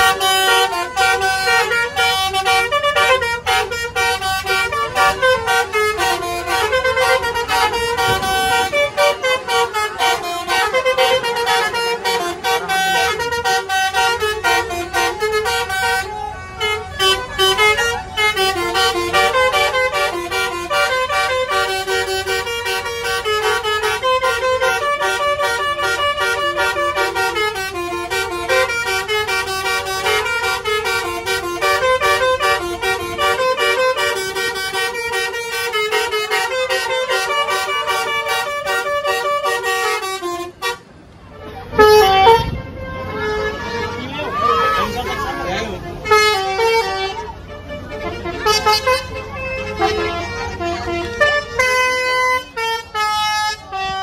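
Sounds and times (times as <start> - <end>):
bus multi-tone horns playing tunes: 0.0 - 54.0.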